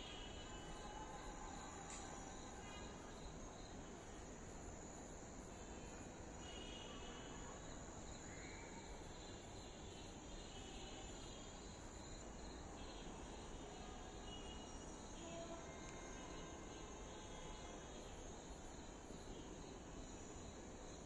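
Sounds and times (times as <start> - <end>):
insects trilling: 0.0 - 7.4, 8.1 - 21.0.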